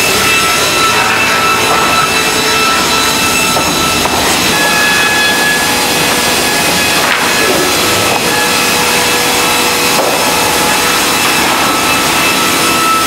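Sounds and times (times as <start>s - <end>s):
bandsaw sawing timber: 0.0s - 13.0s
high steady machine whines: 0.0s - 13.0s.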